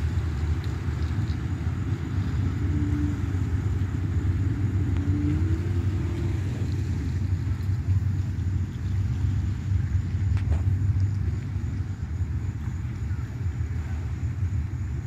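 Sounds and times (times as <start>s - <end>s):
faint engine hum: 0.0s - 15.0s
steady low rumble: 0.0s - 15.0s.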